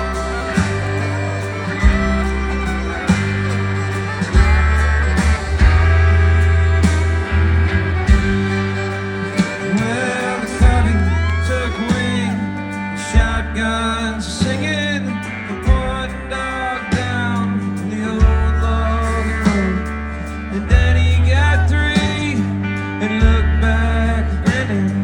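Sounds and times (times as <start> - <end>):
country band playing live: 0.0 - 25.0.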